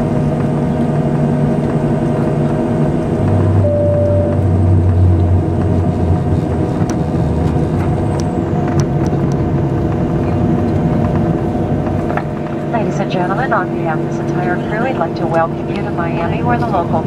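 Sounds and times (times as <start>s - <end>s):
aircraft engine and rolling noise: 0.0s - 17.0s
deep hum: 0.0s - 17.0s.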